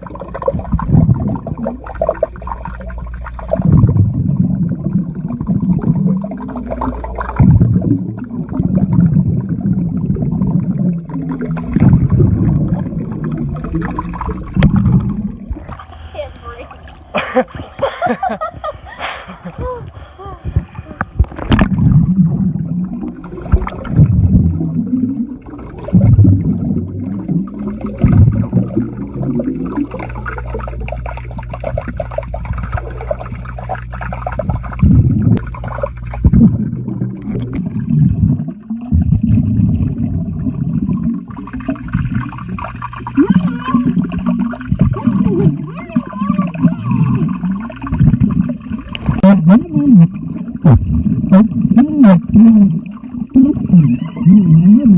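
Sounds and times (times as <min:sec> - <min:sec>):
muffled voices underwater: 0:00.0 - 0:54.9
water bubbling and gurgling: 0:00.0 - 0:54.9.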